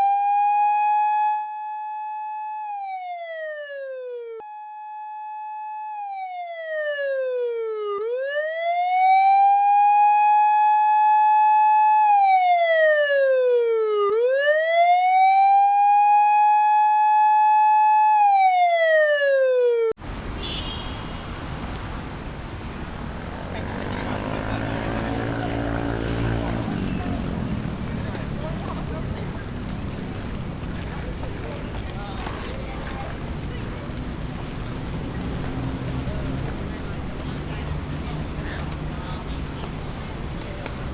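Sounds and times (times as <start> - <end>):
police siren wailing: 0.0 - 20.0, 23.3 - 40.0.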